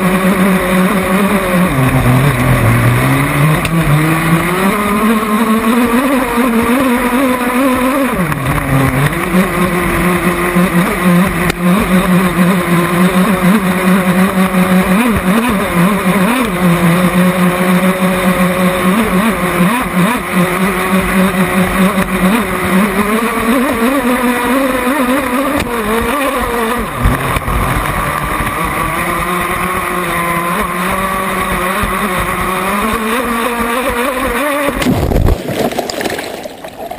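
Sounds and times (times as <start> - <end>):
small boat engine running: 0.0 - 36.9.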